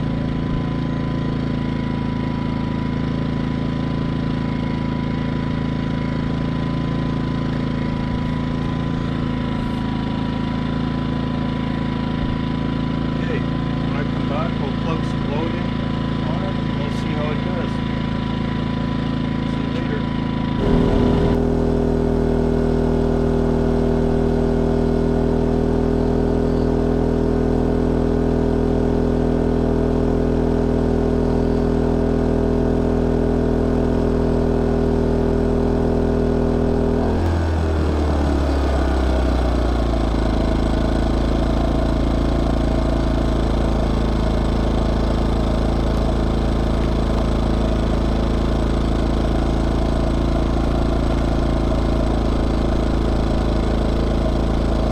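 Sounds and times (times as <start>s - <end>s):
generator engine running: 0.0s - 54.9s.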